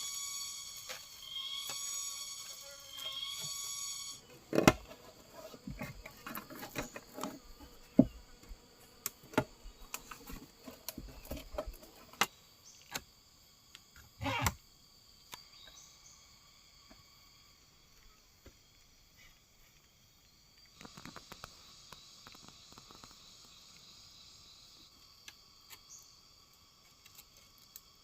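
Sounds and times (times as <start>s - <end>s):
forest insects droning: 0.0s - 28.0s.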